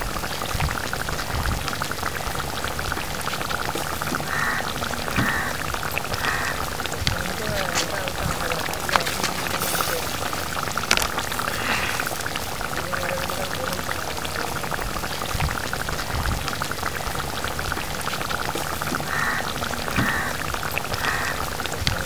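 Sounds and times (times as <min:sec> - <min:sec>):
curry bubbling and popping: 0:00.0 - 0:22.0.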